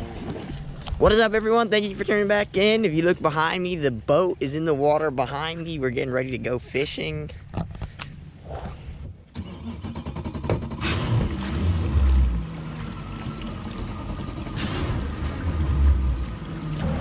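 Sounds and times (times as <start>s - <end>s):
outboard engines rumbling: 0.0s - 17.0s.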